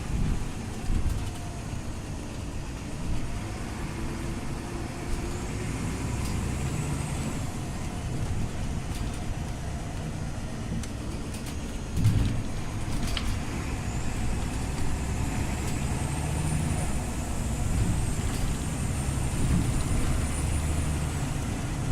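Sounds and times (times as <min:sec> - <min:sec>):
bus engine and road rumble: 0:00.0 - 0:21.9.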